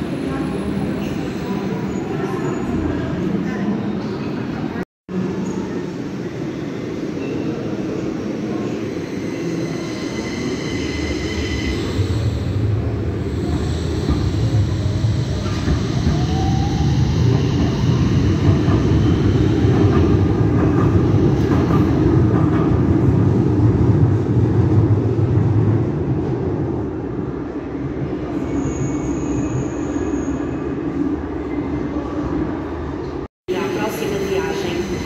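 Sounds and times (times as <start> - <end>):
tram rumbling on track: 0.0 - 35.0.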